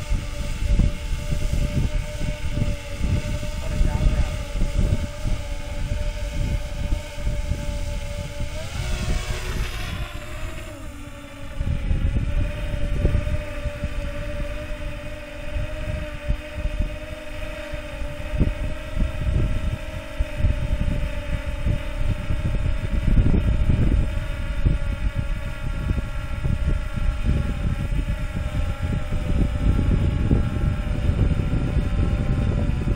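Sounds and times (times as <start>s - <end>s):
drone propellers whining: 0.0s - 32.9s
wind buffeting microphone: 0.0s - 32.9s.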